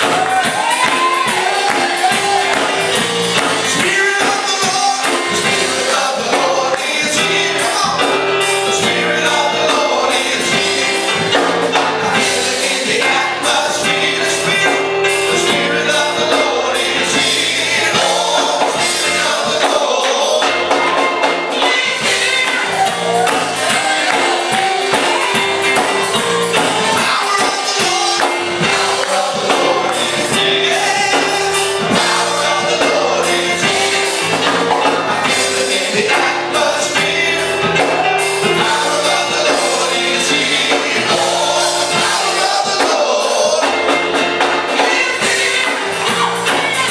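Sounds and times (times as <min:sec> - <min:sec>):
gospel singing voices: 0:00.0 - 0:46.9
percussion: 0:00.0 - 0:46.9.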